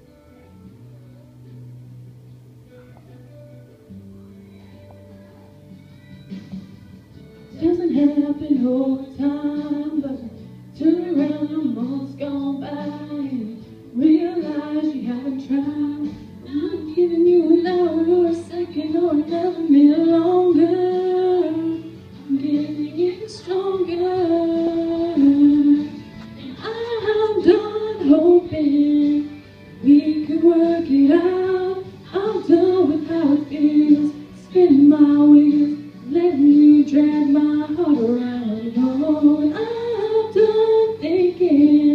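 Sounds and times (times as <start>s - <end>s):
woman singing slow song: 7.4s - 41.9s.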